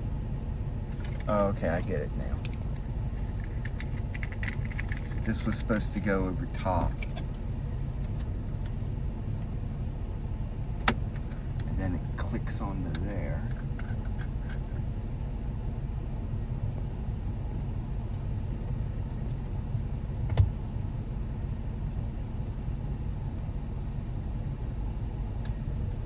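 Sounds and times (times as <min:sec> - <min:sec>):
car engine idling: 0:00.0 - 0:24.2.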